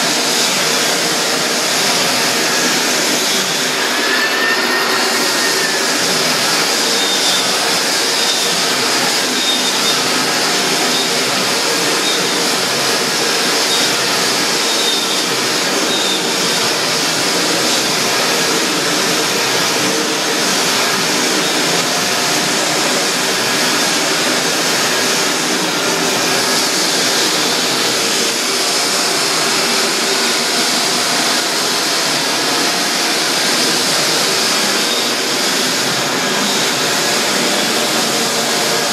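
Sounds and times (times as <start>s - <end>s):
floor sander grinding: 0.0s - 38.9s.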